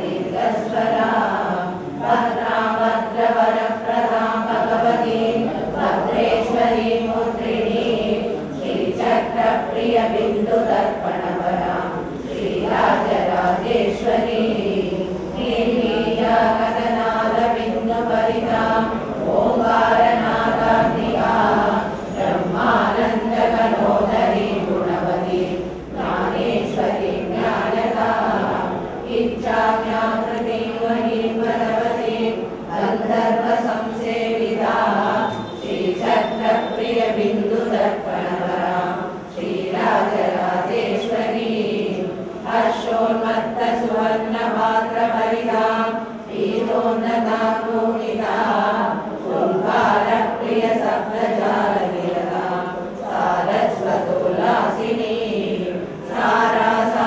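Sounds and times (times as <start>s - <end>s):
women chanting in unison: 0.0s - 57.0s.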